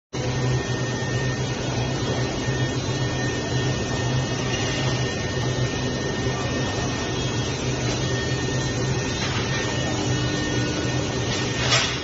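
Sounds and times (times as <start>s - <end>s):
faint high whining tones: 0.2s - 12.0s
machine hum: 0.2s - 12.0s.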